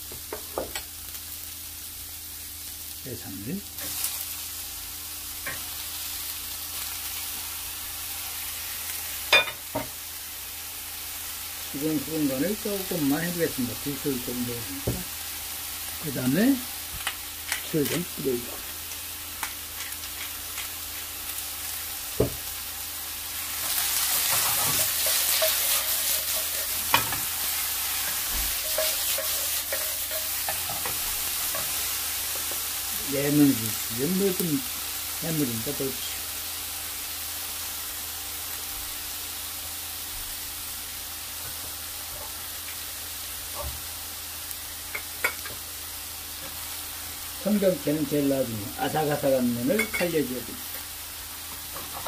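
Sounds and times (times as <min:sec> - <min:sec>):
oil sizzling in frying pan: 0:00.0 - 0:52.0.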